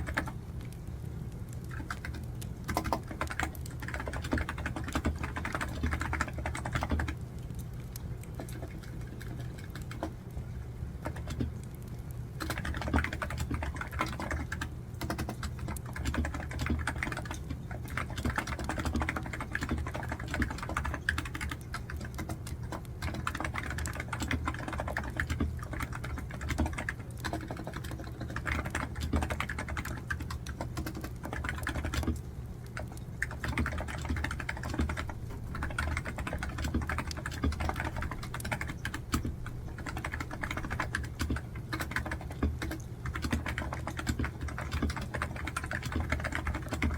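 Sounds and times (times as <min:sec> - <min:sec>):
fast typing on keyboard: 0:00.0 - 0:00.4, 0:01.6 - 0:07.2, 0:08.2 - 0:10.3, 0:11.0 - 0:11.7, 0:12.4 - 0:46.9.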